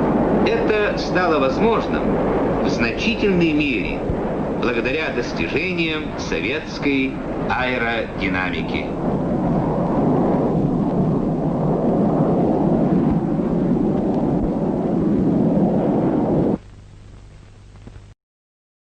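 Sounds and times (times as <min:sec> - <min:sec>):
jet engines rumbling: 0:00.0 - 0:17.7
faint low hum: 0:00.0 - 0:18.2.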